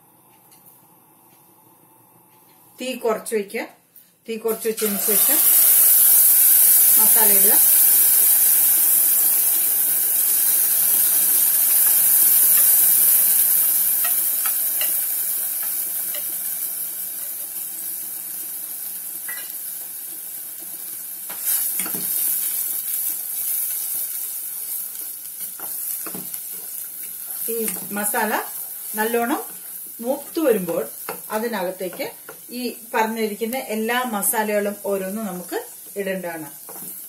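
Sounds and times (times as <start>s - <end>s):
paste sizzling in hot oil: 4.6s - 37.0s.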